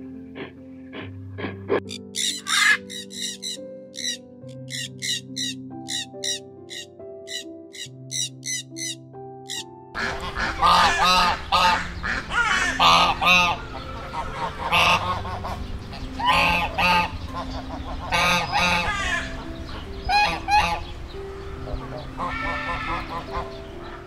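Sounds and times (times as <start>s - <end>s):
ducks quacking: 0.4s - 19.5s, 20.1s - 20.9s, 21.6s - 24.0s.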